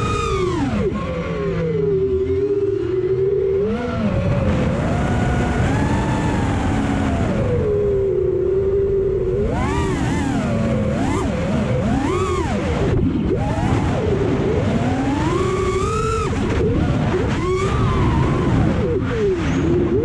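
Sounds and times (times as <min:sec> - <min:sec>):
drone propellers whining: 0:00.0 - 0:20.0
low rush of wind: 0:00.0 - 0:20.0.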